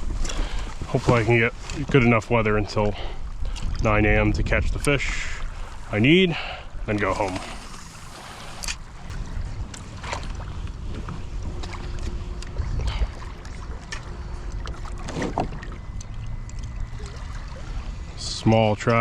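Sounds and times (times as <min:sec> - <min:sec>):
low wind rumble: 0:00.0 - 0:19.0
water lapping against kayak hull: 0:00.0 - 0:19.0.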